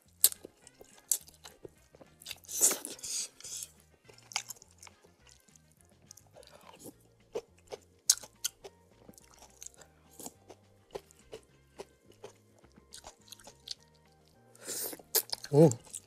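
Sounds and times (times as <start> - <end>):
person chewing noodles: 0.0 - 16.0
soft background music: 0.0 - 16.0.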